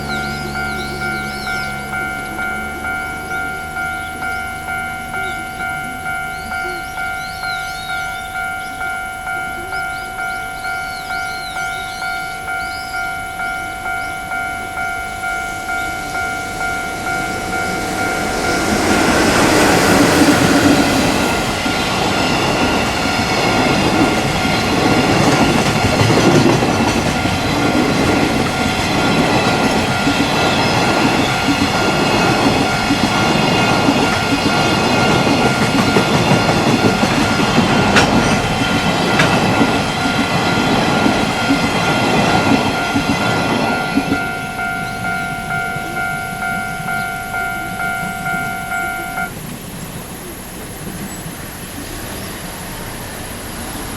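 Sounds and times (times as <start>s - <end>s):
level crossing bell dinging: 0.0s - 49.4s
train passing: 0.0s - 53.9s.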